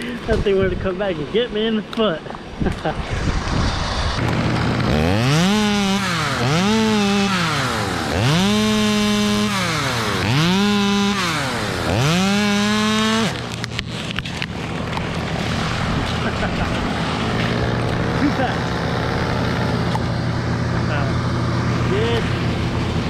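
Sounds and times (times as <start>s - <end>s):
chainsaw revving: 2.9s - 23.0s.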